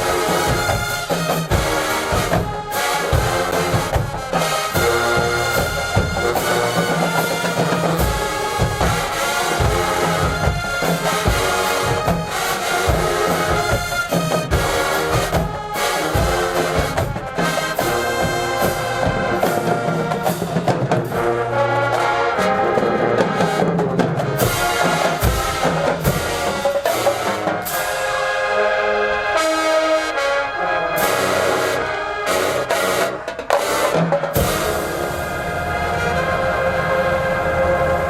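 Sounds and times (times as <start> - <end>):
marching band playing: 0.0 - 38.0.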